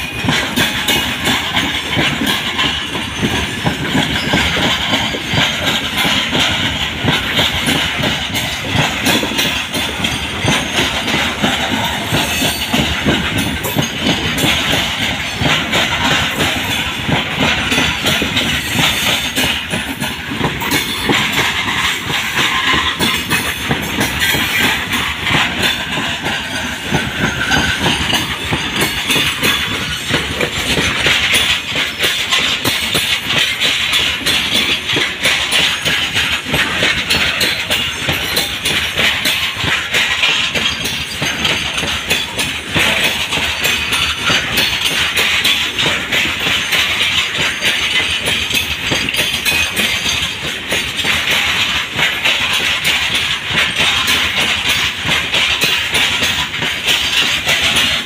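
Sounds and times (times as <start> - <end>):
clickety-clack over rail joints: 0.0 - 58.0
train wheels on rails: 0.0 - 58.0.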